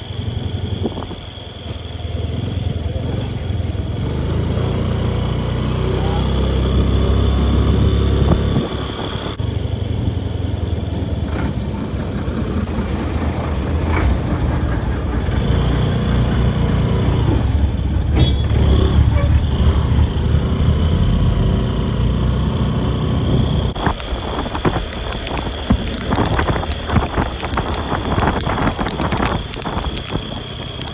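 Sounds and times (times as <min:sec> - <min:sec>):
road rumble: 0:00.0 - 0:30.9
vehicle engine running: 0:00.0 - 0:30.9.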